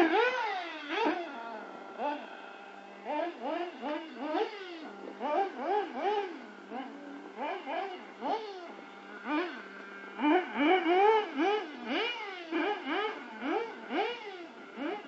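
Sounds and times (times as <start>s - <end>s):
small two-stroke engine revving: 0.0s - 15.0s.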